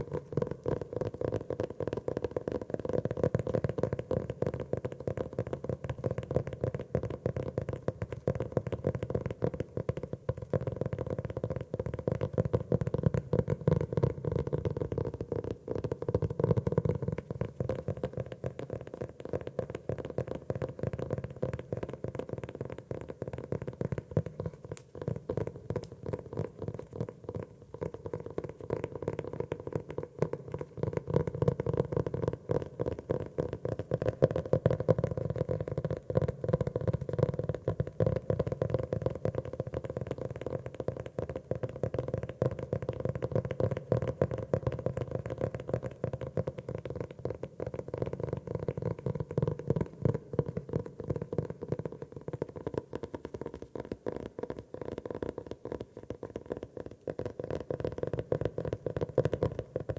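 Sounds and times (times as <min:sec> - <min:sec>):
fingers tapping on notebook cover: 0:00.0 - 0:59.9.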